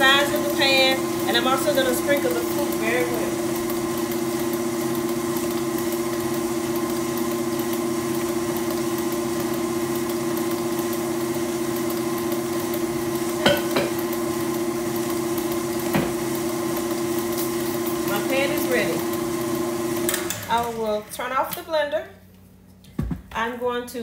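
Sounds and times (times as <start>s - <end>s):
stand mixer motor humming: 0.0s - 21.1s.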